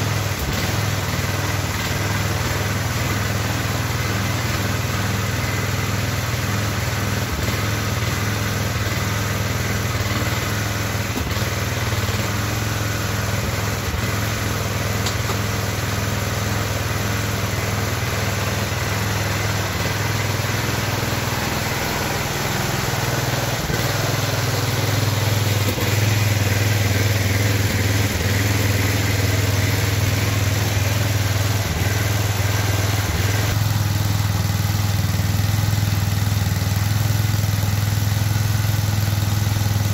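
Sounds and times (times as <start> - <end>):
engine running with low hum: 0.0 - 39.9.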